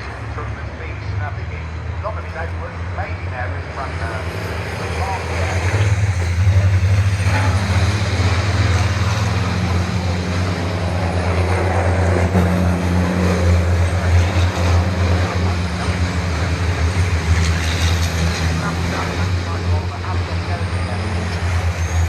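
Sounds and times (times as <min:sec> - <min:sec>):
diesel truck engines droning: 0:00.0 - 0:22.0
track noise: 0:00.0 - 0:22.0.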